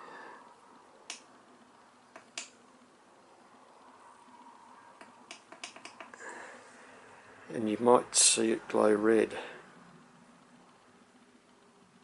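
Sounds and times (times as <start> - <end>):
faint room noise: 0.0 - 12.0.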